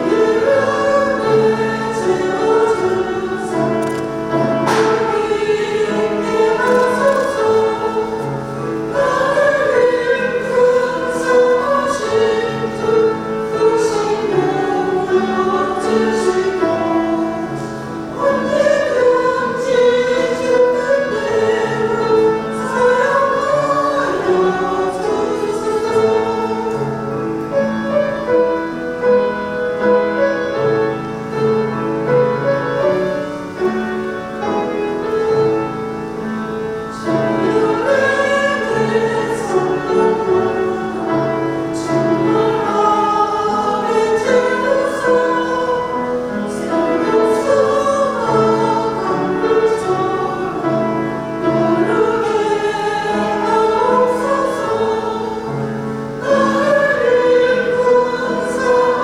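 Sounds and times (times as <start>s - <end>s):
piano accompaniment: 0.0s - 59.0s
women's choir singing a hymn: 0.0s - 59.0s.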